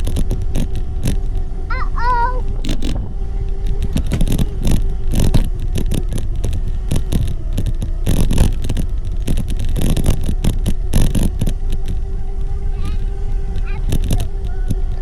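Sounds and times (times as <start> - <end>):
electric motor whine: 0.0 - 15.0
wind rumble on microphone: 0.0 - 15.0
knocks and rattles: 2.5 - 15.0.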